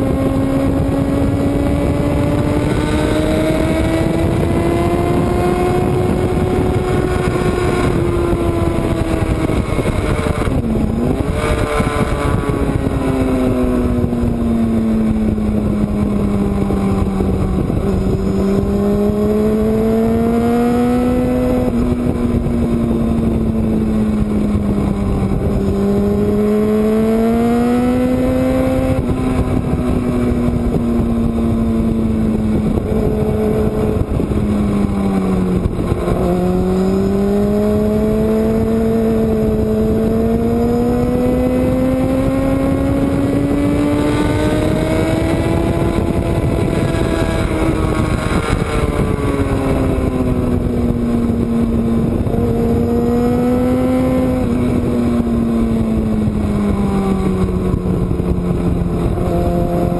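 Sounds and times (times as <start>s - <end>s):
loud wind rush: 0.0s - 59.9s
motorcycle engine revving: 0.0s - 59.9s.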